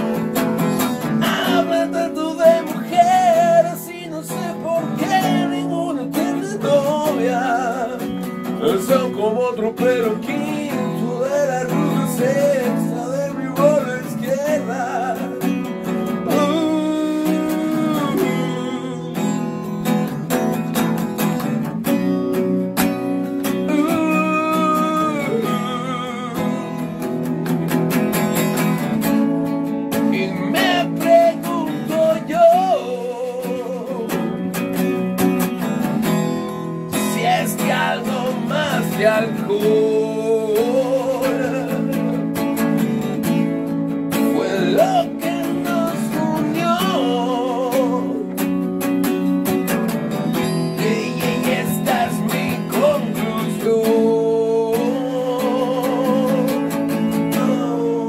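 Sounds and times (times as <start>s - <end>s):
man singing: 0.0s - 20.2s, 23.2s - 27.5s, 29.8s - 43.5s, 44.1s - 58.0s
strummed acoustic guitar: 0.0s - 58.0s.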